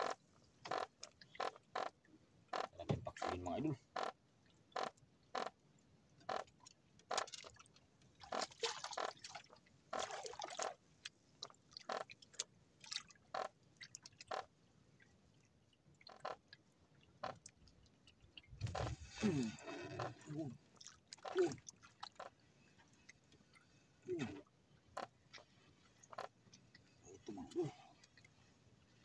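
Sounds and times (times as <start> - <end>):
water splashing against boat: 0.0 - 4.1, 6.2 - 29.0.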